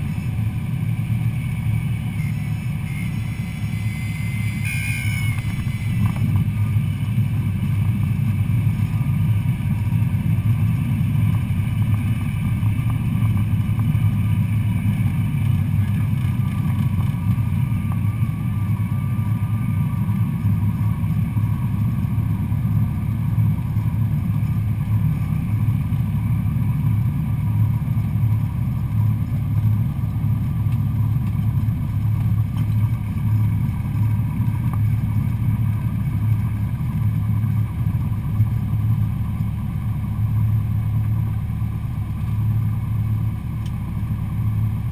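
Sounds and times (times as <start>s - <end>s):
airplane engine droning: 0.0s - 44.9s.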